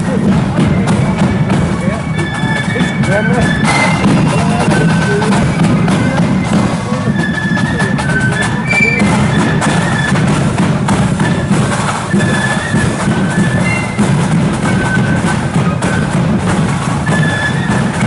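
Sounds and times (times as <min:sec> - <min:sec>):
shrill flutes playing: 0:00.0 - 0:18.0
snare and bass drums: 0:00.0 - 0:18.0.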